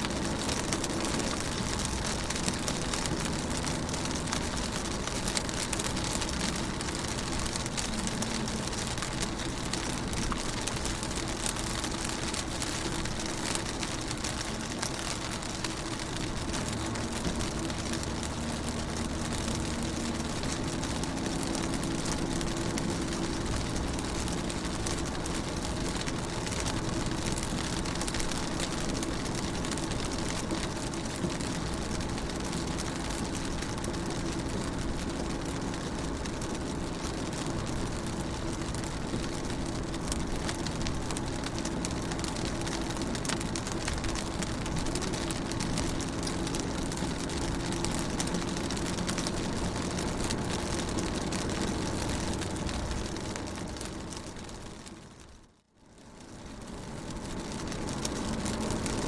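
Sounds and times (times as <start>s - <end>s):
rain on a car window and roof: 0.0s - 59.0s.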